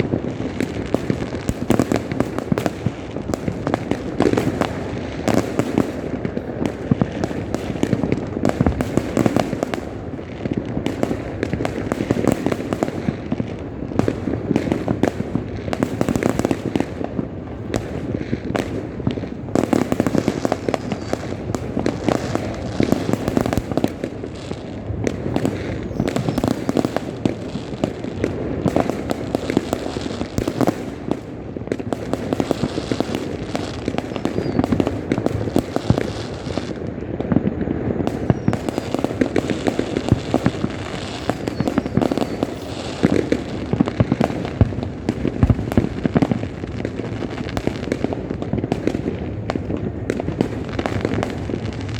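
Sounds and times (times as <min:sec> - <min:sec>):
fireworks and firecrackers bangs: 0:00.0 - 0:51.9.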